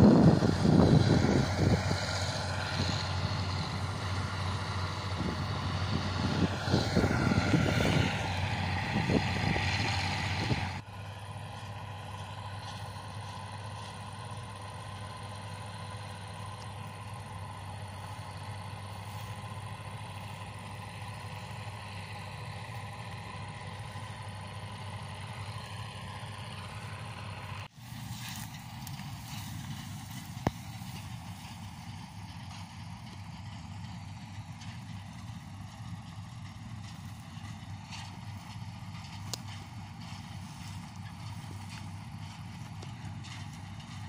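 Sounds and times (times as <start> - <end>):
distant combine harvester engine: 0.0 - 44.0.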